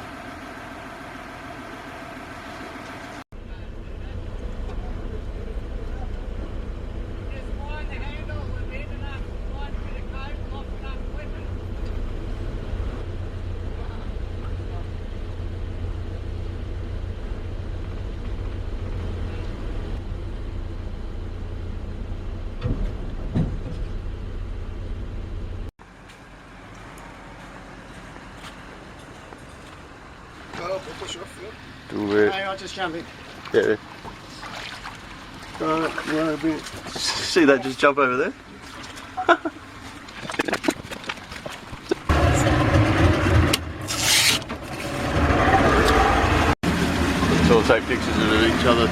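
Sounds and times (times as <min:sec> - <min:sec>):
boat engine droning: 0:00.0 - 0:22.6, 0:24.0 - 0:40.4, 0:41.0 - 0:48.9.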